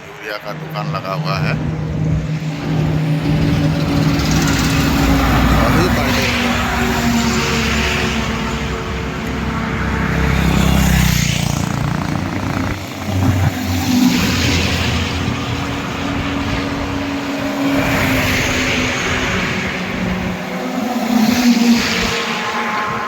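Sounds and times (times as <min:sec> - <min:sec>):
heavy low engine rumble: 0:00.0 - 0:20.7
vehicles passing on highway: 0:00.0 - 0:23.0.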